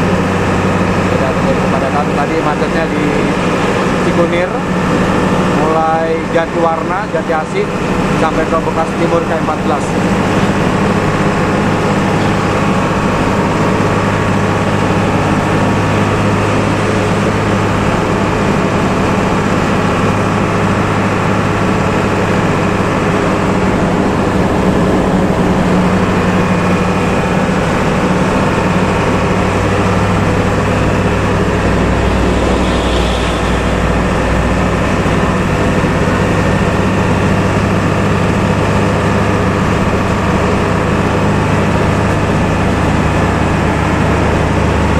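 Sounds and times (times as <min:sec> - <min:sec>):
bus engine drone: 0:00.0 - 0:44.9
road noise: 0:00.0 - 0:44.9.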